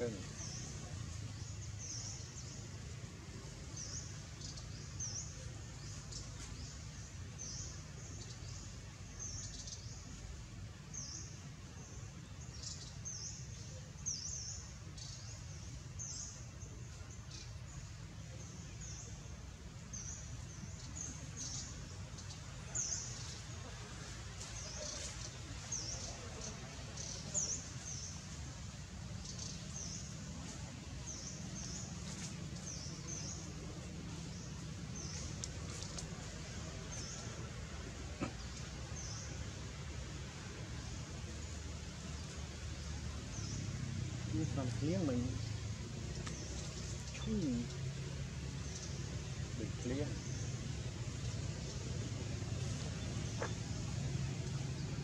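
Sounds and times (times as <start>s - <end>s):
low outdoor rumble: 0.0s - 55.0s
small birds chirping: 0.0s - 55.0s.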